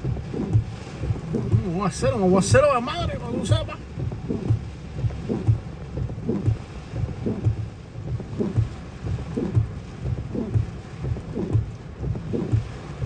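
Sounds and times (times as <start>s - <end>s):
heavy rain on a car: 0.0s - 13.0s
windshield wipers thumping: 0.0s - 13.0s.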